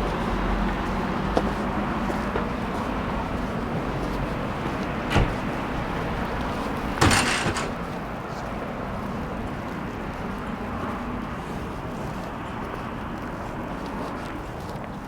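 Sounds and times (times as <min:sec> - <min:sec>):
city street noise: 0:00.0 - 0:15.0.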